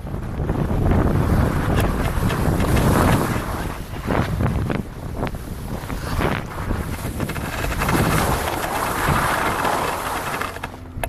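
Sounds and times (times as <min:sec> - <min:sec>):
wind rumbling on microphone: 0:00.0 - 0:11.0
skis scraping over snow: 0:00.1 - 0:10.9.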